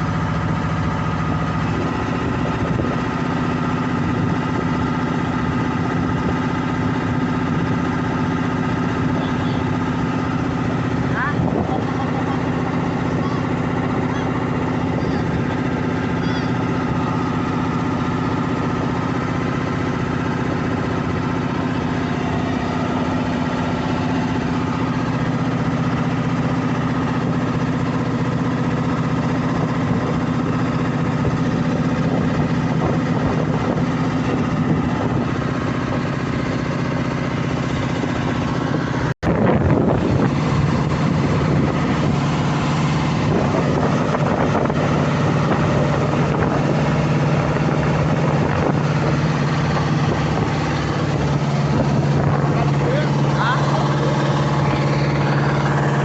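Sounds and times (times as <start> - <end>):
boat diesel engine running: 0.0 - 56.0.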